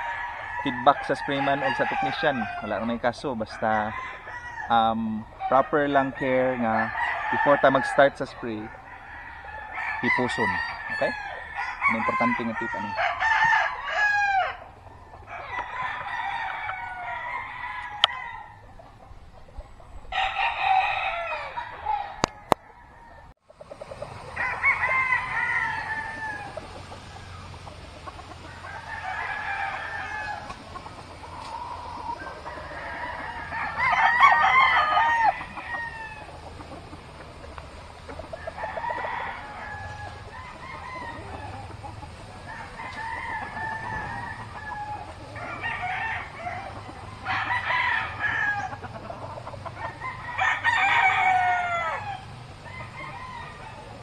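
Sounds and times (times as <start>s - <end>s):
roosters crowing: 0.0s - 54.0s.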